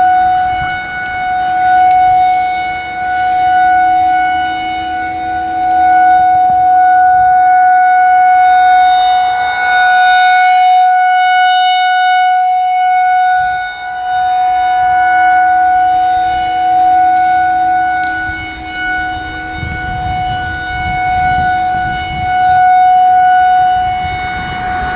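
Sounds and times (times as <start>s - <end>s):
rotating siren steady tone: 0.0s - 24.9s.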